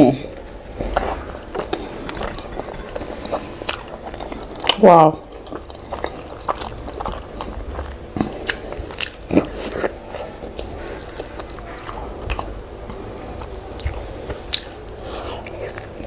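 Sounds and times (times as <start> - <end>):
person chewing food: 0.3 - 16.0.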